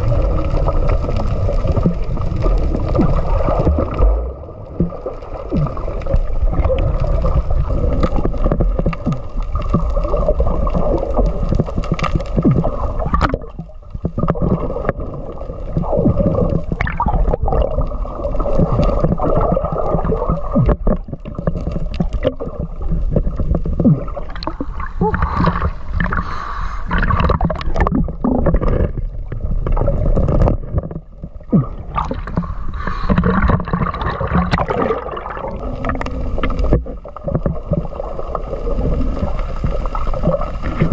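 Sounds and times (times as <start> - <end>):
muffled underwater water rushing: 0.0 - 40.9.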